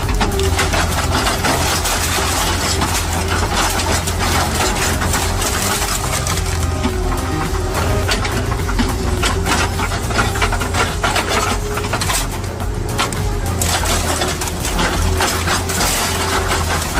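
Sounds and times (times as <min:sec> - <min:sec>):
clatter of sharp small impacts: 0:00.0 - 0:16.9
machine engine running: 0:00.0 - 0:16.9.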